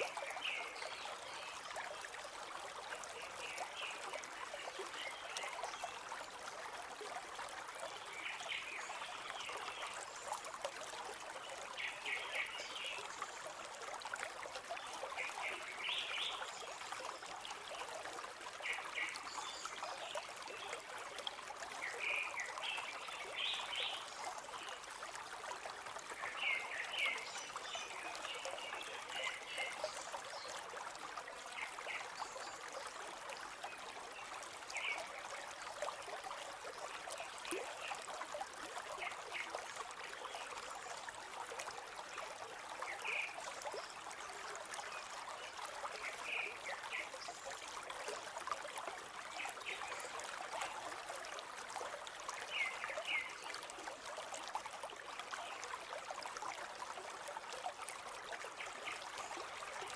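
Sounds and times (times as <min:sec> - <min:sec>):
river flowing and trickling: 0:00.0 - 0:59.9.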